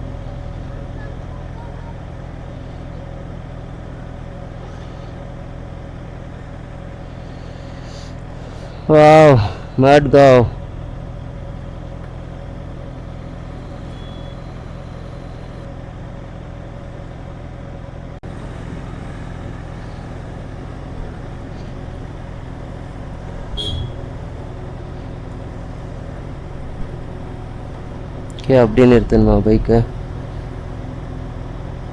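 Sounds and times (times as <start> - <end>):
engine idling: 0.0 - 31.9.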